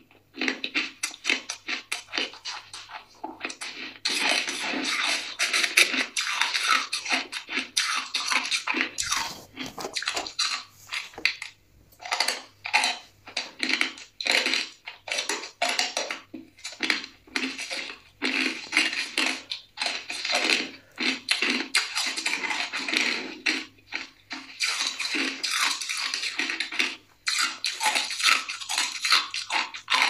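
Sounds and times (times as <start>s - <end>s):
ice crunching while chewed: 0.1s - 30.0s.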